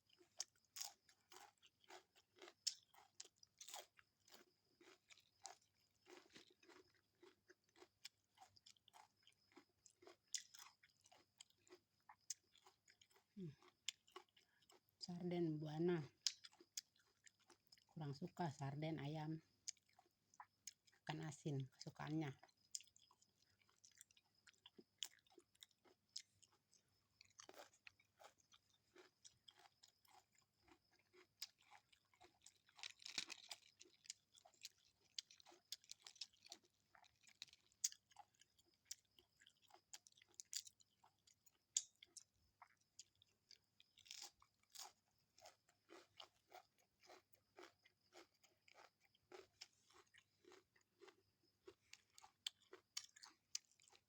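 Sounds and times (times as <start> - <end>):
person chewing food: 0.0 - 15.1, 16.1 - 18.0, 19.5 - 21.2, 22.4 - 54.0.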